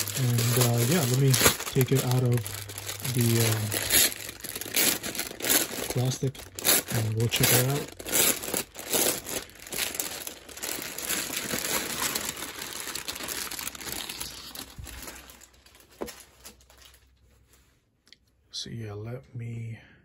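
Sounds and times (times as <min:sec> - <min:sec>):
plastic bag crinkling: 0:00.0 - 0:17.3.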